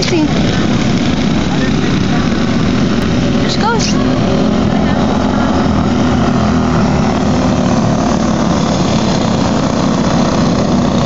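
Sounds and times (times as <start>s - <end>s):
race car engines buzzing: 0.0s - 11.0s.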